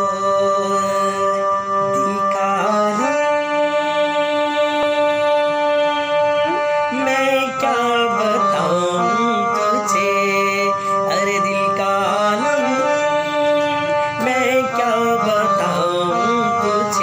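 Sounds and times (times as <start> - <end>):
electronic keyboard melody: 0.0 - 17.0
man singing wordlessly: 0.0 - 17.0.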